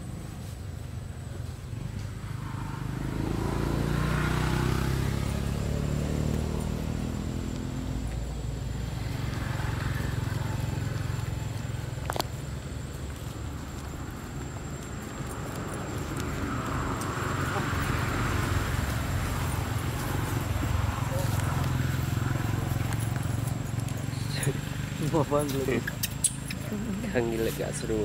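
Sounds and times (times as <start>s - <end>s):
vehicle engine passing by: 0.0s - 28.0s.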